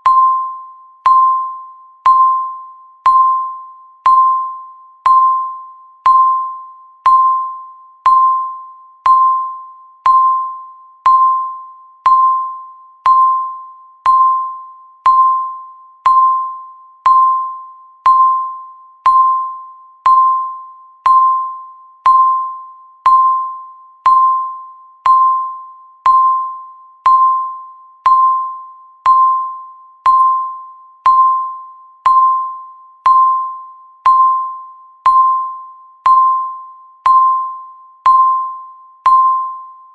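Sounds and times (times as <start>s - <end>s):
bell-like electronic timer ticks: 0.0s - 39.9s.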